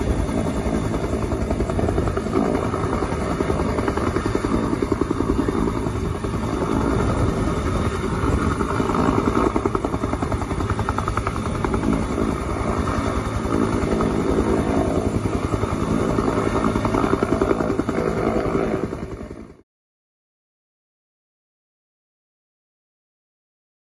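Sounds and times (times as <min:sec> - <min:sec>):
helicopter rotor throbbing: 0:00.0 - 0:19.6.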